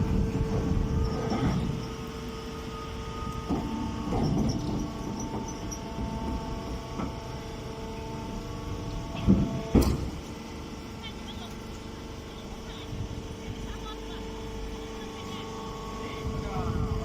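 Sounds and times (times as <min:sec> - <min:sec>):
baling machine humming: 0:00.0 - 0:17.0.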